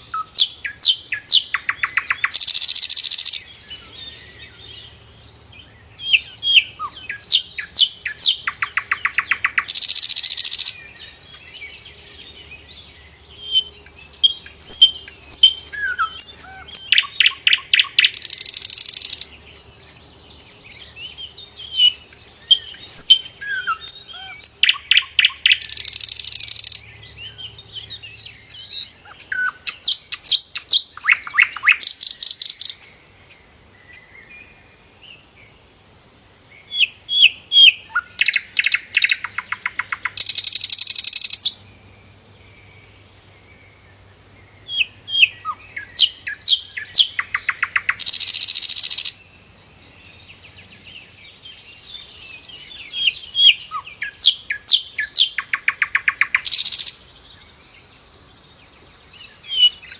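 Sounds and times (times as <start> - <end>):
bird singing chirps and trills: 0.0 - 35.8, 36.4 - 59.9.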